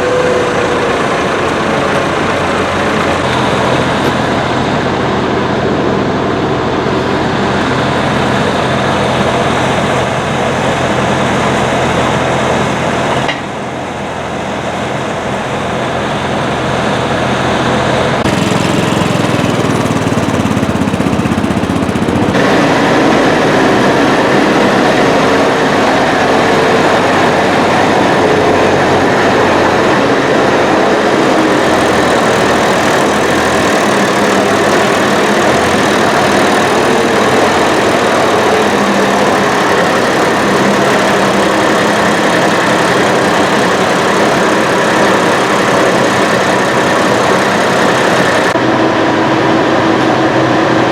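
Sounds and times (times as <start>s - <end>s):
tractor diesel engines running: 0.0s - 50.9s.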